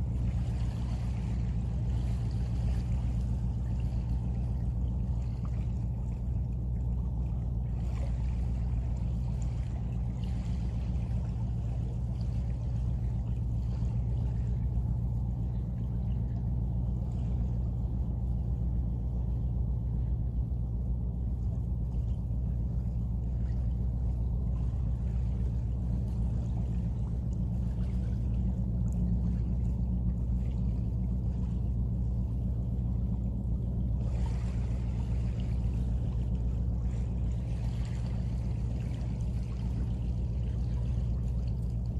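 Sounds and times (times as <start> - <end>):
steady low hum and rumble: 0.0 - 41.9.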